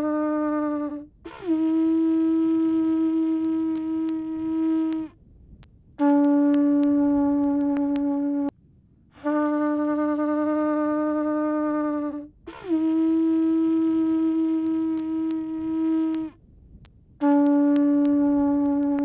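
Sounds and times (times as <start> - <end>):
horn blasts: 0.0 - 5.2, 6.0 - 8.5, 9.2 - 16.4, 17.2 - 19.0.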